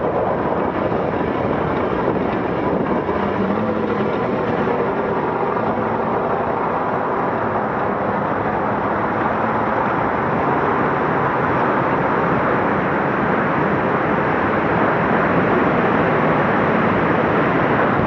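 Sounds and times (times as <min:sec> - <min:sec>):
faint engine hum: 0:00.0 - 0:18.0
truck driving: 0:00.0 - 0:18.0.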